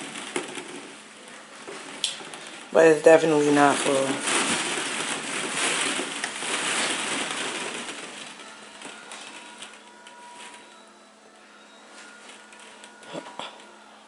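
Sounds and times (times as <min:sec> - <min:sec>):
plastic balls rustling and clacking: 0:00.0 - 0:13.8.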